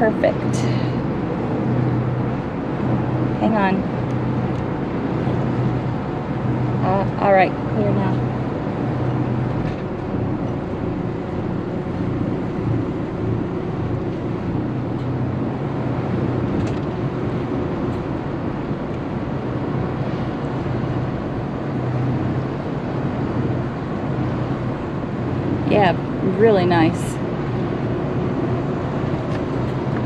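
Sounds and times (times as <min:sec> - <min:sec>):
boat engines running low hum: 0:00.0 - 0:30.0.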